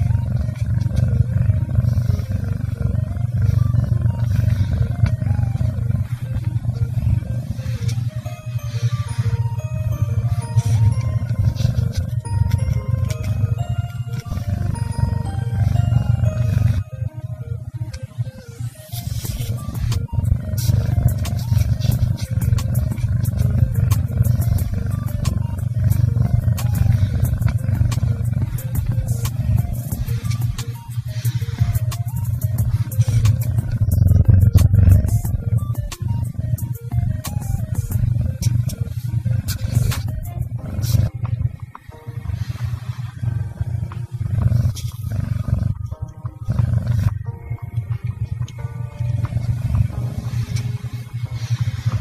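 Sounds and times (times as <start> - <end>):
fur rubbing against microphone: 0.0 - 52.0
kitten purring loudly: 0.0 - 52.0.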